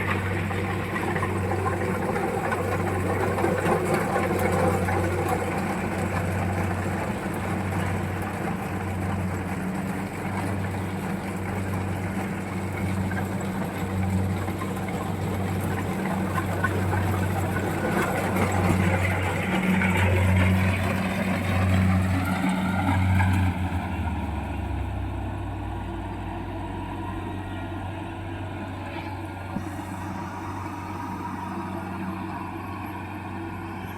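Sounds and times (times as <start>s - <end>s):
harvester engine droning: 0.0s - 33.9s
machine whine: 0.0s - 33.9s.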